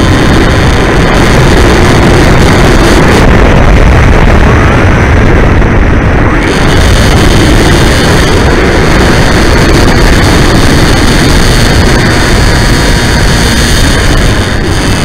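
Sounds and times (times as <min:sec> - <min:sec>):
high motor whine: 0:00.0 - 0:15.0
wind and propeller rush: 0:00.0 - 0:15.0.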